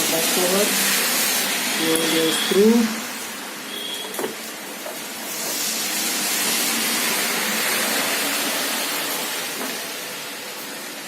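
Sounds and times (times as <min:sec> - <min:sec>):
white noise static from tv speaker: 0:00.0 - 0:11.0.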